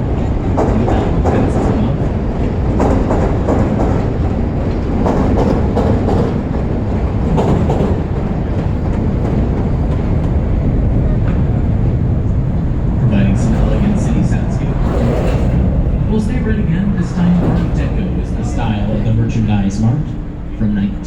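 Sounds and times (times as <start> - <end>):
elevated train rumbling: 0.0 - 21.0
wheels clacking over rail joints: 0.0 - 21.0.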